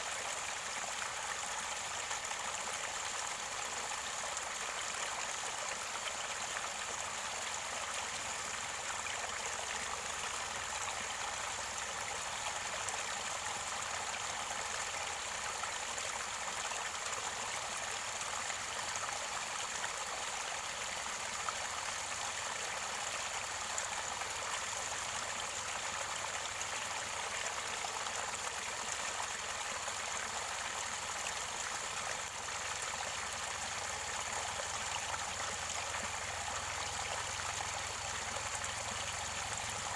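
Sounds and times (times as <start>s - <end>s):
mountain stream gurgling: 0.0s - 39.9s.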